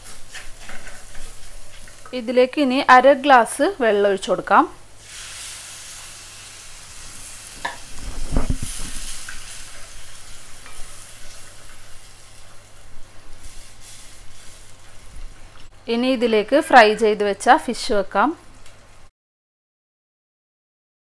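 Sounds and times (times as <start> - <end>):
masala sizzling in pot: 0.0 - 19.1.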